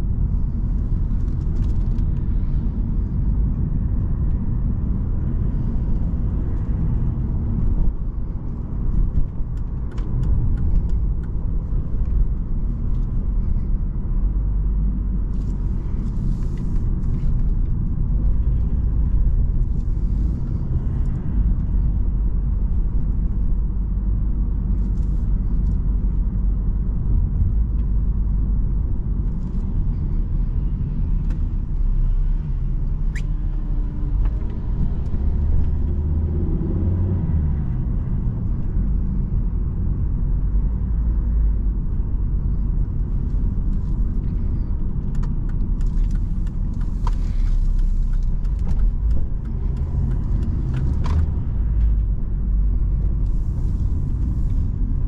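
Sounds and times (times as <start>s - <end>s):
car interior engine and road rumble: 0.0s - 55.0s.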